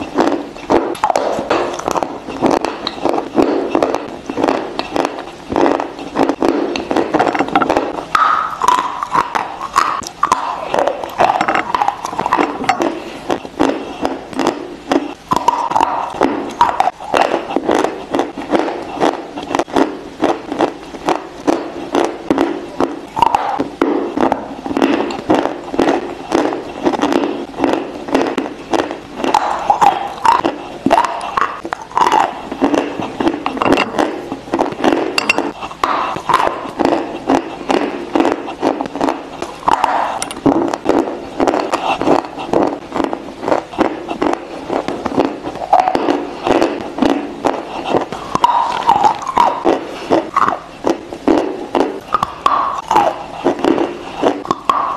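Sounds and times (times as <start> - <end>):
chewing crunchy chalk: 0.0 - 54.9.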